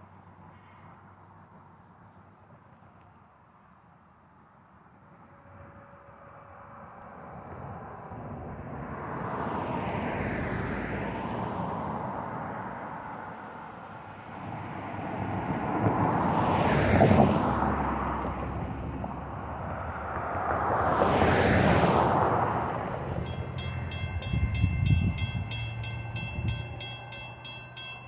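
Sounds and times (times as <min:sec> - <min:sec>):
vehicles driving past: 0:04.9 - 0:28.0.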